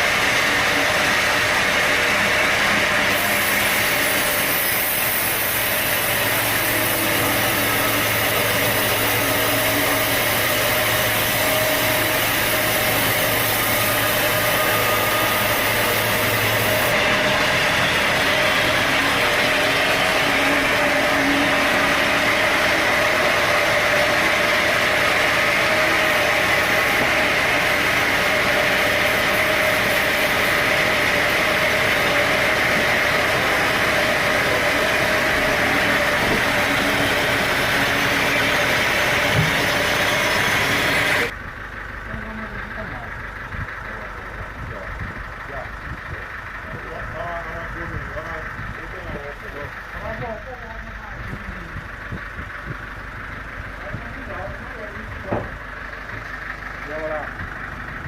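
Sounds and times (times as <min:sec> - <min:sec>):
sawmill machinery din: 0:00.0 - 0:58.0.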